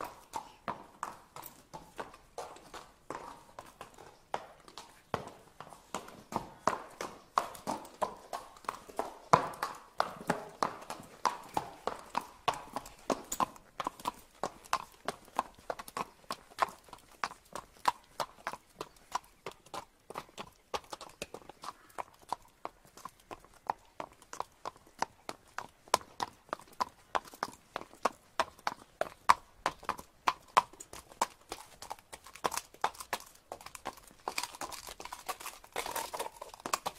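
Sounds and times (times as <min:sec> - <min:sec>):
horse hooves clip-clopping: 0:00.0 - 0:36.9.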